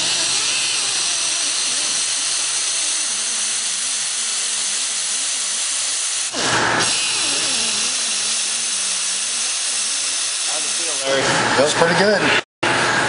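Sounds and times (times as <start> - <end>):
disc grinder running: 0.0 - 12.2.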